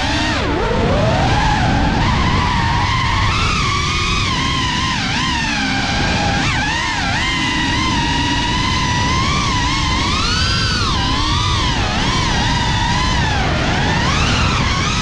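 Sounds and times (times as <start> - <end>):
drone motors whining: 0.0 - 15.0
rumbling propeller wash: 0.0 - 15.0.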